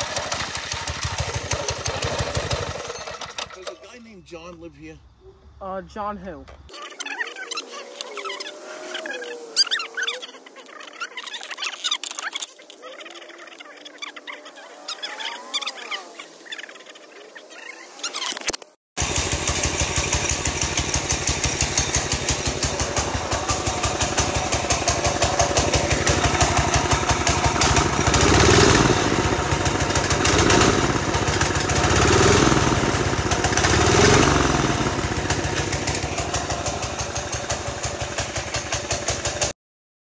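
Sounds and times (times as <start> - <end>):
motorcycle engine running and revving: 0.0 - 3.7, 7.0 - 16.4, 19.0 - 39.5.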